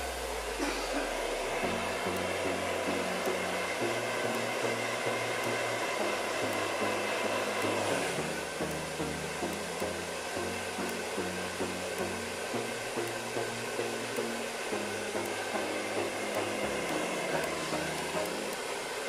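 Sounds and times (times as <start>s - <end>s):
background music with bass: 0.0s - 19.0s
hair dryer blowing: 0.0s - 19.0s.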